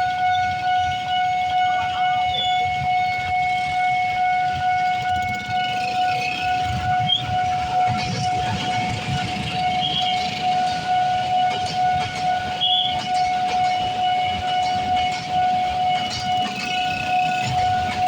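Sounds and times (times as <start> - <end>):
level crossing alarm tone: 0.0 - 18.0.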